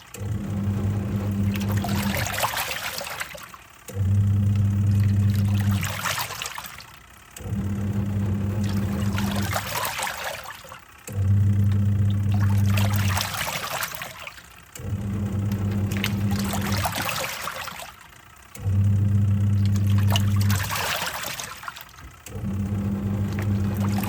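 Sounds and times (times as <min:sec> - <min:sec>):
washing machine motor humming: 0:00.0 - 0:24.0
water sloshing in tub: 0:00.0 - 0:24.0.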